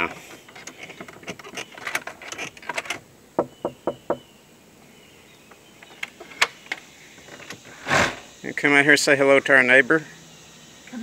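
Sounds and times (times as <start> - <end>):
faint steady background noise: 0.0 - 11.0.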